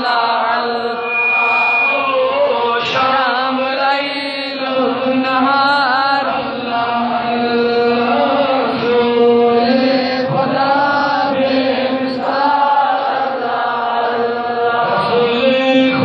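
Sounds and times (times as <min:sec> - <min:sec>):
man chanting into a microphone: 0:00.0 - 0:12.6, 0:14.2 - 0:16.0.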